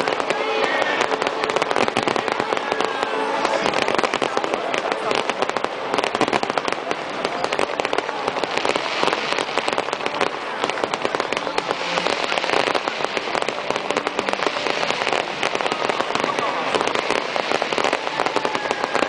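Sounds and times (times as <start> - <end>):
fireworks crackling pops: 0.0 - 19.0.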